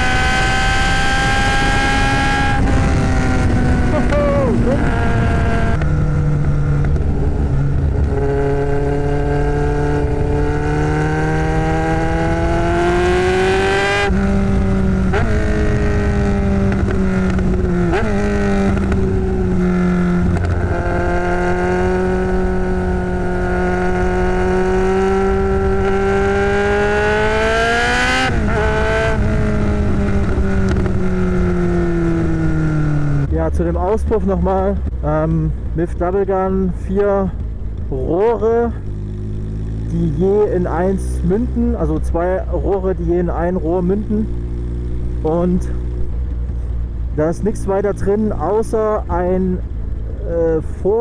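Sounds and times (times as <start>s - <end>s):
motorcycle engine running loud: 0.0s - 51.0s.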